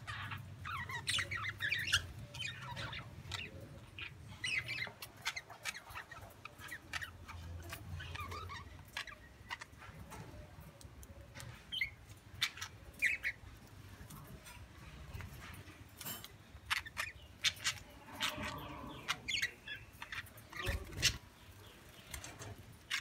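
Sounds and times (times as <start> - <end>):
bird chirps: 0.0 - 23.0.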